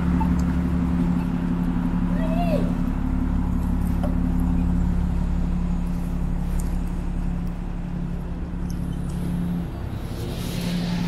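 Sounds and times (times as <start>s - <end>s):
low rumble: 0.0s - 11.0s
vehicle engine hum: 0.0s - 11.0s.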